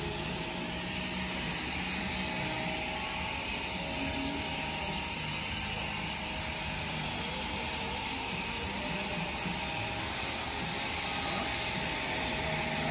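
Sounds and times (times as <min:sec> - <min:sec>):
whirring machine: 0:00.0 - 0:12.9.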